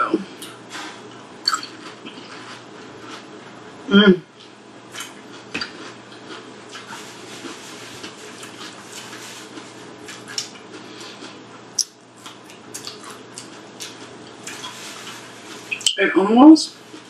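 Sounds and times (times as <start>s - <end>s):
low steady hum: 0.0s - 17.0s
chewing with mouth clicks: 0.4s - 3.3s, 4.4s - 15.9s.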